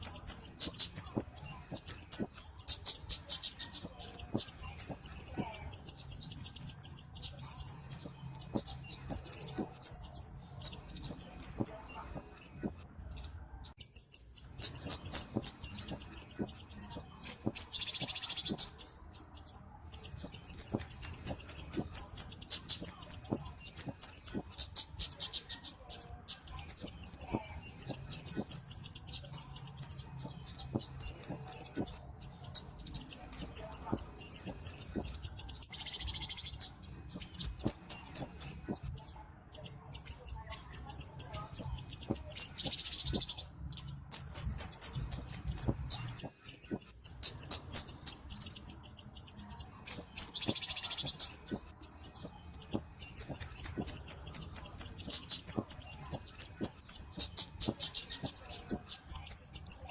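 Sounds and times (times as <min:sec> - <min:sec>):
bird high-pitched chips: 0:00.0 - 0:59.9
buzzy bird notes: 0:00.0 - 0:59.9.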